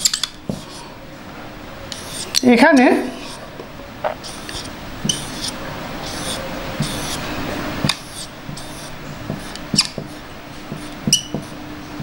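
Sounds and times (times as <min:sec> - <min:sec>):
marker squeaking on whiteboard: 0:00.0 - 0:00.9, 0:01.9 - 0:02.4, 0:03.1 - 0:11.6.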